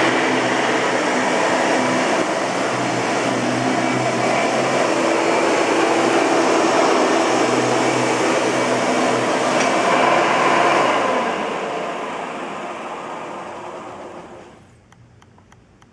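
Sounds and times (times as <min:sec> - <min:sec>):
vacuum cleaner running: 0:00.0 - 0:14.7.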